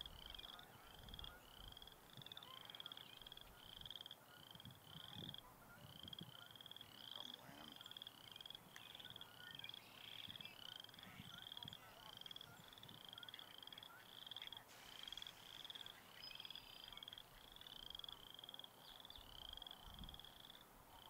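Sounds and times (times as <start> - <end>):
frogs trilling: 0.0 - 21.0.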